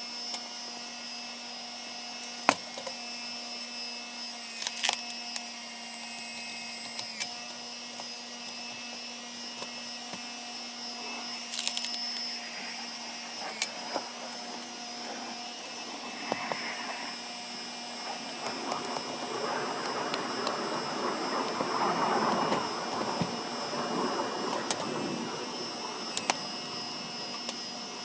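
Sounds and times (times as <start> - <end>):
log splitter engine drone: 1.8 - 28.0.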